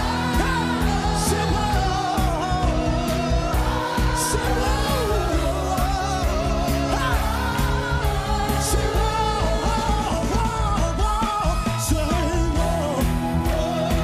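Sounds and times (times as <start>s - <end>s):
gospel singing with band: 0.0s - 14.0s.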